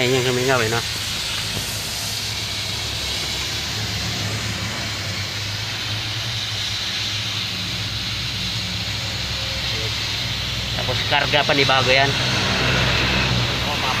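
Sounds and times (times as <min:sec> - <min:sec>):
refrigerant hissing: 0:00.0 - 0:14.0.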